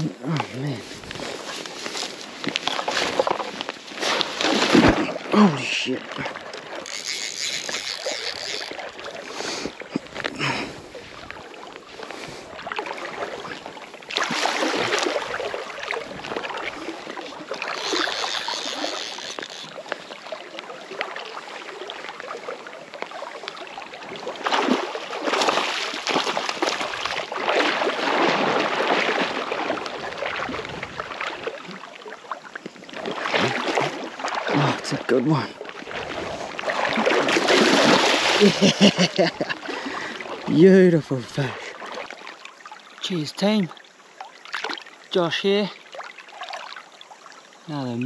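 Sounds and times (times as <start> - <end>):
river water sloshing and splashing: 0.0 - 48.0.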